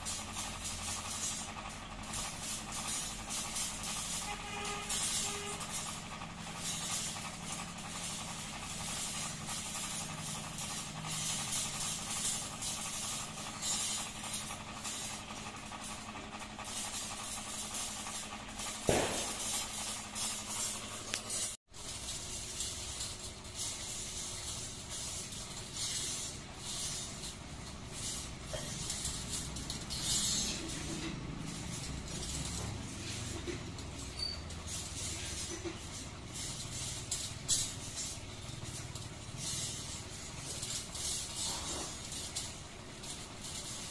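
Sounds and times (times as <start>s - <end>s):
steady hum: 0.0s - 43.9s
wire fencing clinking and scraping: 0.0s - 43.9s.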